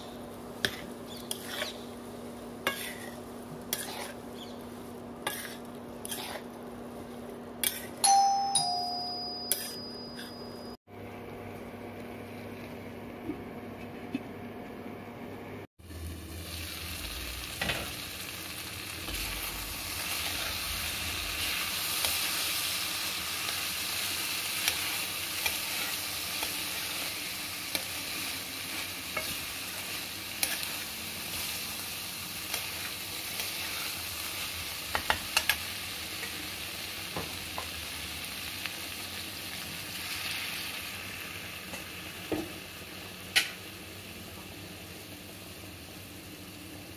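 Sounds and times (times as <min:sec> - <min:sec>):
food sizzling in a wok: 0:00.0 - 0:08.0, 0:15.8 - 0:46.9.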